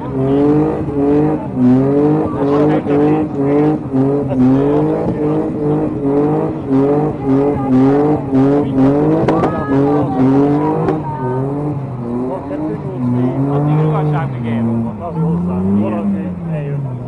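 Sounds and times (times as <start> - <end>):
car engine revving in blips: 0.0 - 17.0.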